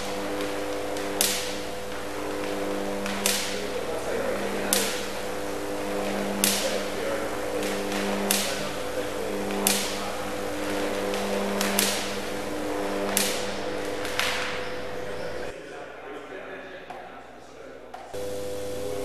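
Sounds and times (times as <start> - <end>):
electric arc buzzing: 0.0 - 15.5, 18.2 - 19.0
sharp arc cracks: 0.0 - 15.5.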